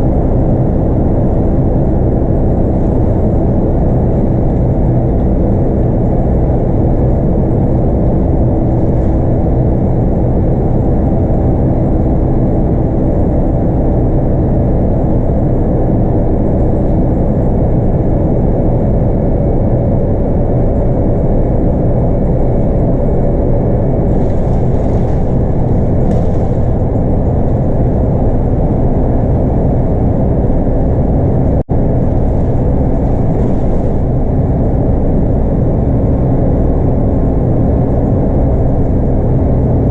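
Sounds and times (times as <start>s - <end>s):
bus engine rumble: 0.0s - 39.9s
road noise: 0.0s - 39.9s.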